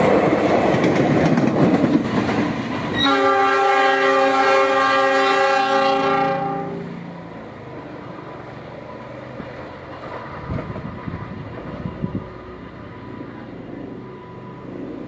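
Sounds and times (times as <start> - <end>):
distant locomotive engine rumble: 0.0 - 15.0.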